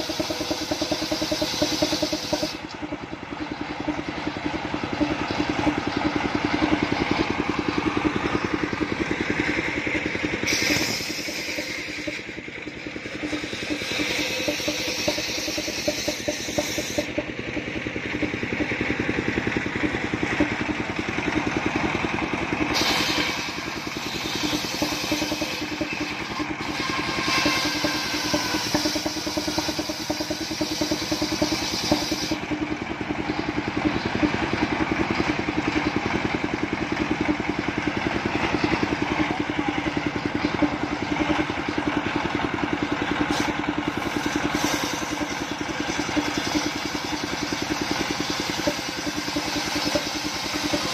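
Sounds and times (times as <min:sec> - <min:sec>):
circular saw cutting wood: 0:00.0 - 0:32.8, 0:42.3 - 0:50.9
sawmill engine running: 0:00.0 - 0:50.9.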